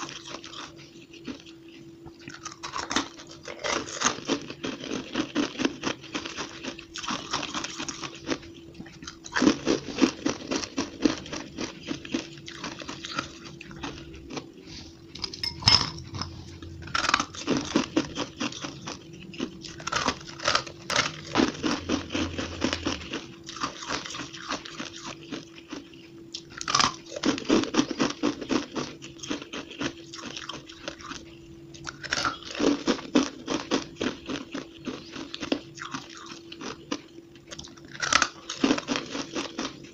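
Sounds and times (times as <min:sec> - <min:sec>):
faint hum: 0:00.0 - 0:39.9
ice being chewed: 0:00.0 - 0:39.9.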